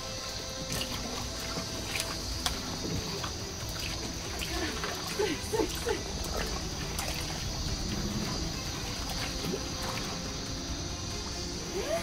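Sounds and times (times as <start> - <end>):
fish splashing in water: 0.3 - 10.5.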